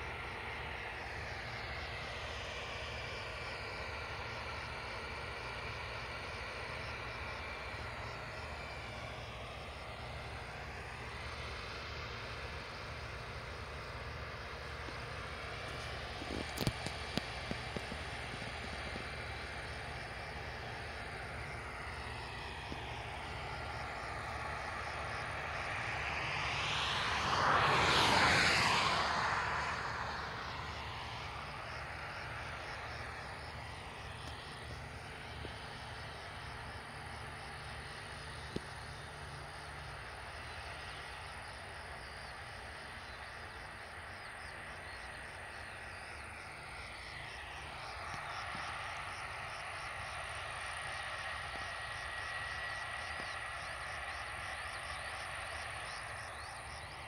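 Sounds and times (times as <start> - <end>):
distant combine harvesters droning: 0.0 - 57.0.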